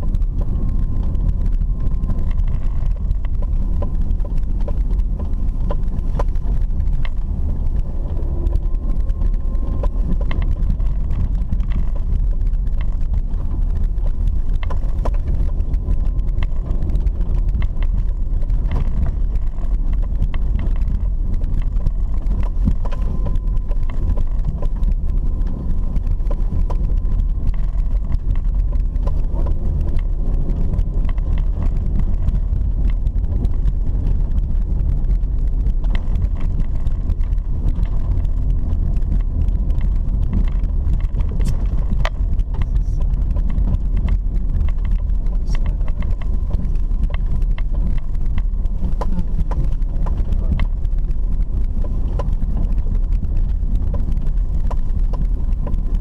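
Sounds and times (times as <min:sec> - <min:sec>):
car rumbling on dirt road: 0:00.0 - 0:56.0
knocks and rattles: 0:00.0 - 0:56.0.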